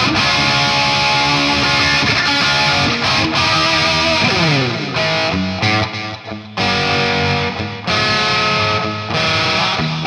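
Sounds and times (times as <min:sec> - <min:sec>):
distorted electric guitar: 0:00.0 - 0:10.0.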